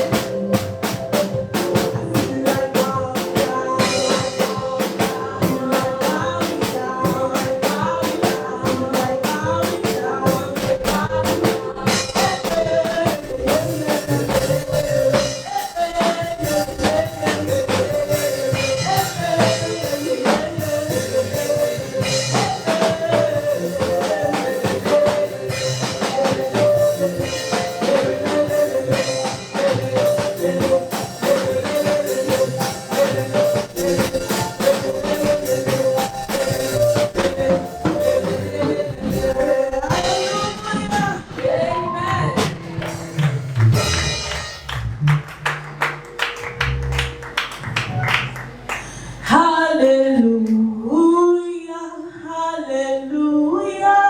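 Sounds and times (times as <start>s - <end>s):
person singing: 0.0s - 44.7s, 48.8s - 54.0s
drum kit: 0.0s - 49.4s
gospel music: 0.0s - 51.3s.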